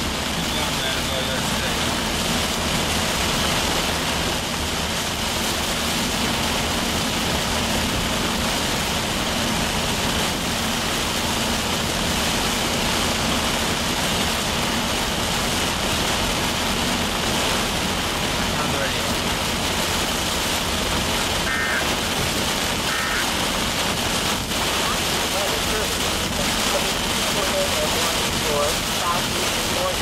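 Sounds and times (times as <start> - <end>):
heavy rain on a vehicle: 0.0 - 30.0
road and engine noise: 0.0 - 30.0.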